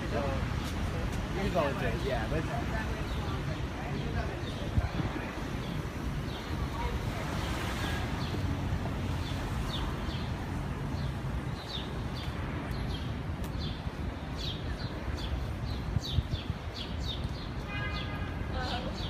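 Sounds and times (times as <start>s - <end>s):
small birds chirping: 0.5s - 17.7s.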